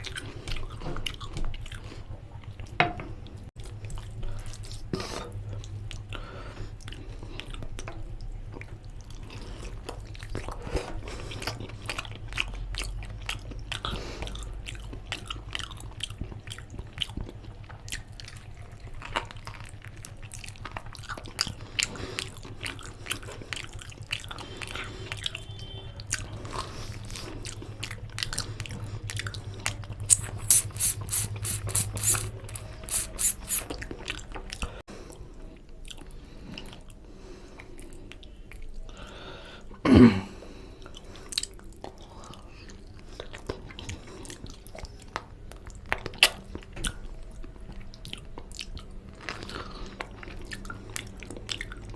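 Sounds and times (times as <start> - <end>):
wet chewing and smacking: 0.0 - 39.1, 40.8 - 51.9.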